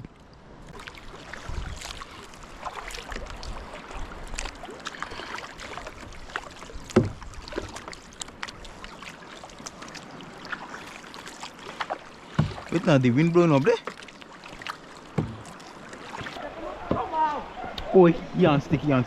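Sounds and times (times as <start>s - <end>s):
water splashing around kayak: 0.0s - 19.0s.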